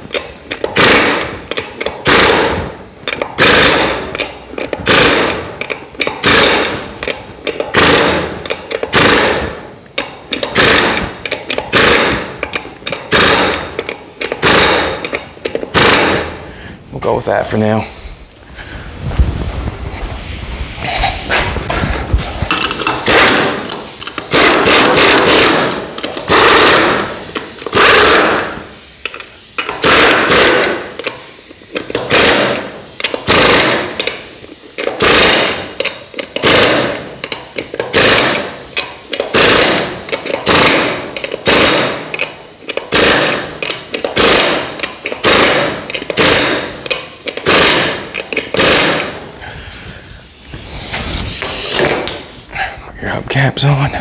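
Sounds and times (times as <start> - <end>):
air impact wrench bursts: 0.0 - 19.0, 20.0 - 52.5.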